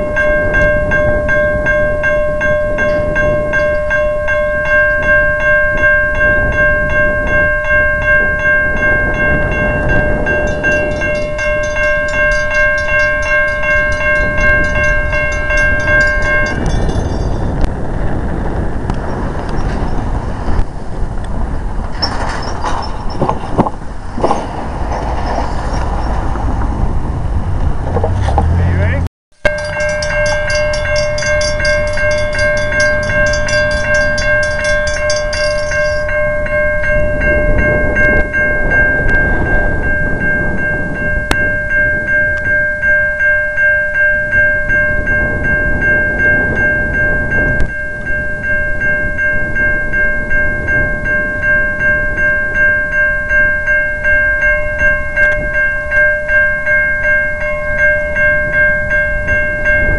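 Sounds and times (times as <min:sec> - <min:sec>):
crossing warning bell ringing: 0:00.0 - 0:59.9
train rumble: 0:00.0 - 0:59.9.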